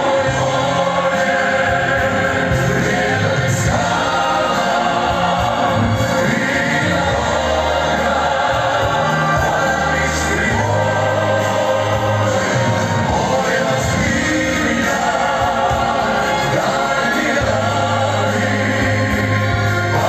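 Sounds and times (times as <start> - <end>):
male choir singing in harmony: 0.0 - 20.0
musical accompaniment: 0.0 - 20.0.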